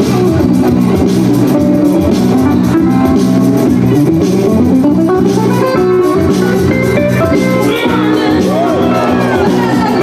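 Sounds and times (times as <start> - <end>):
guitar line over steady beat: 0.0 - 10.0.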